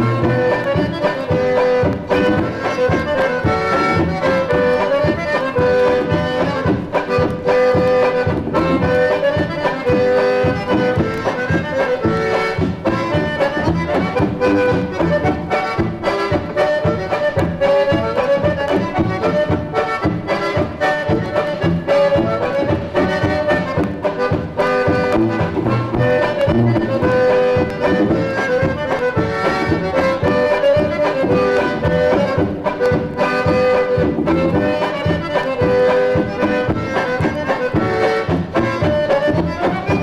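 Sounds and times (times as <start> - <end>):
polka band playing: 0.0 - 40.0.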